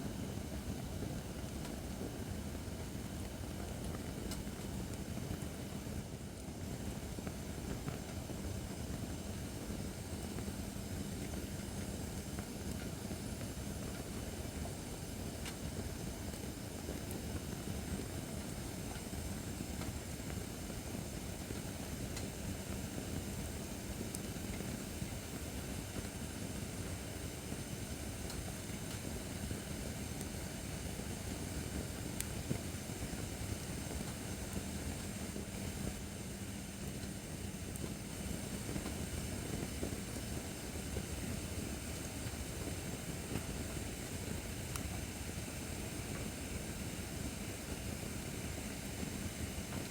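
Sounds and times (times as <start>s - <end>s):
fire crackles: 0.0s - 49.9s
flames rushing: 6.6s - 49.9s.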